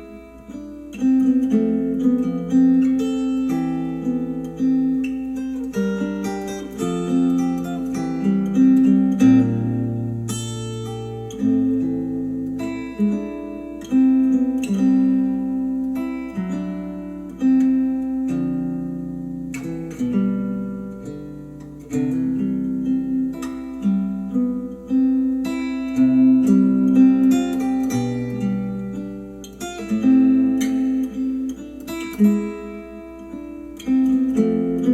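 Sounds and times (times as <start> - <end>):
acoustic guitar chords: 0.0 - 34.9.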